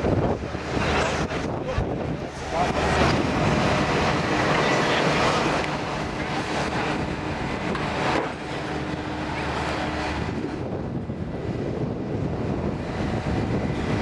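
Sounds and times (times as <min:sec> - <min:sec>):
steady rumbling din: 0:00.0 - 0:14.0
wind buffeting microphone: 0:00.0 - 0:14.0.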